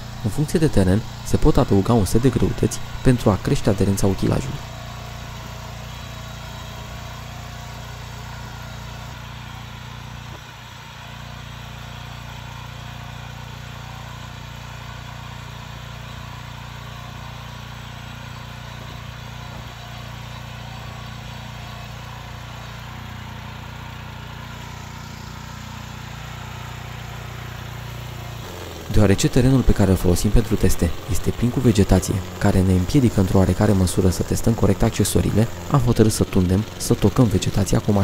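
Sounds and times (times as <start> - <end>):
tractor petrol engine running: 0.0 - 38.0.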